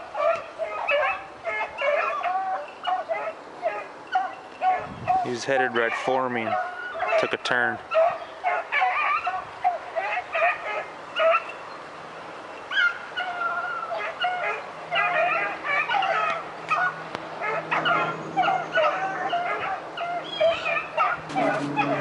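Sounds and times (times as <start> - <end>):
hounds baying: 0.0 - 11.7, 12.6 - 22.0.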